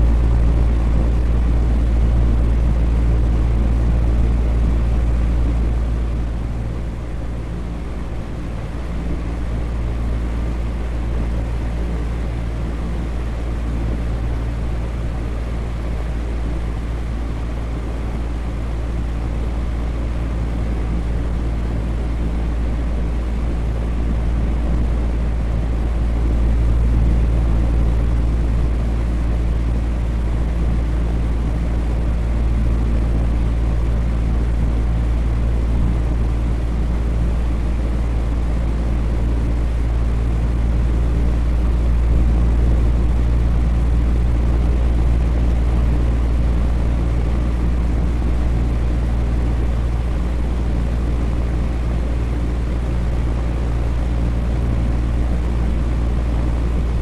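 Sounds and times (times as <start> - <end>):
electric fan humming: 0.0 - 57.0.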